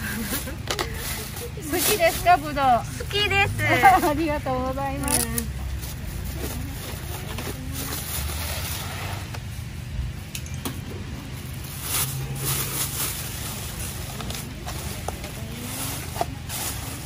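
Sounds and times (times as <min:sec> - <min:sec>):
plastic bags rustling: 0:00.0 - 0:09.3, 0:11.4 - 0:17.0.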